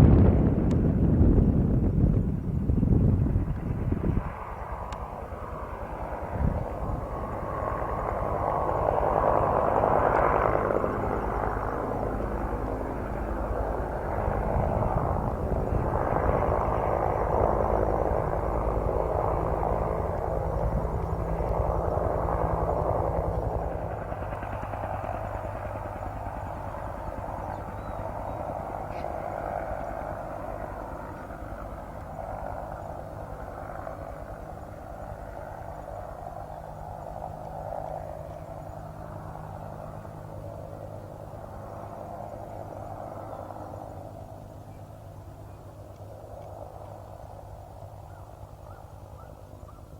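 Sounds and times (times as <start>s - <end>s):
helicopter rotor beating: 0.0s - 49.9s
turbine drone: 0.0s - 49.9s.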